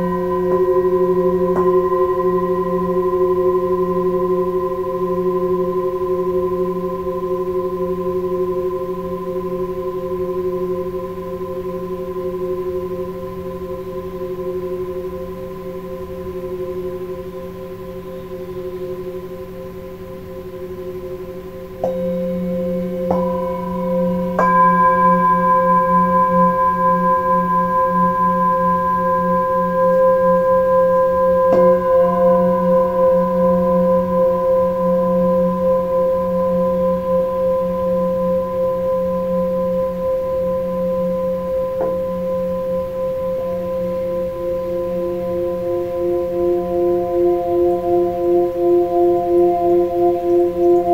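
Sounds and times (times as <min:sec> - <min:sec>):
singing bowls ringing: 0:00.0 - 0:17.1, 0:21.8 - 0:50.9.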